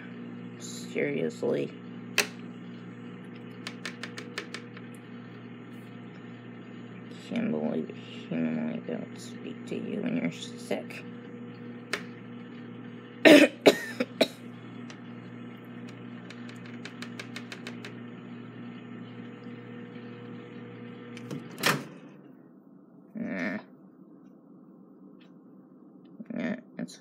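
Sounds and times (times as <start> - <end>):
microwave oven humming: 0.0 - 27.0.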